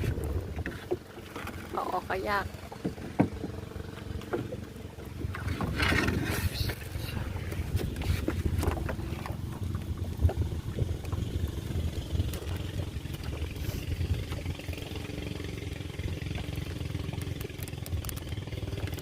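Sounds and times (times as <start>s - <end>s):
motor running with low rumble: 0.0s - 19.0s.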